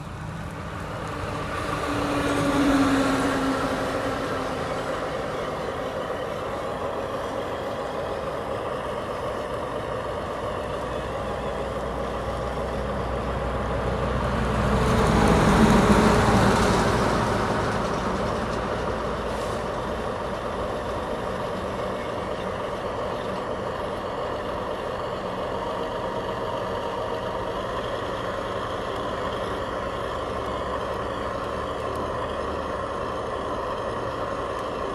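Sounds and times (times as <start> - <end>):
remote-control trucks running: 2.4 - 14.1, 17.7 - 34.9.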